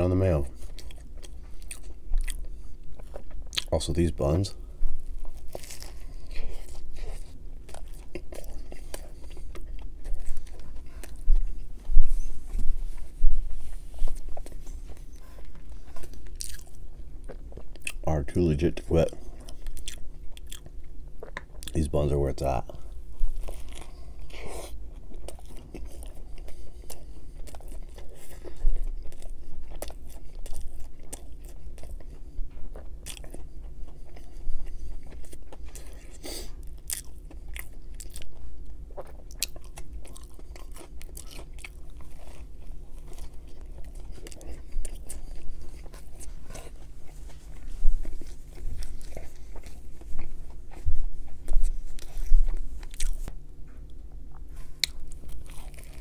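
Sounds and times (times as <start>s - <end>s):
crunchy chewing of sandwich: 0.0s - 56.0s.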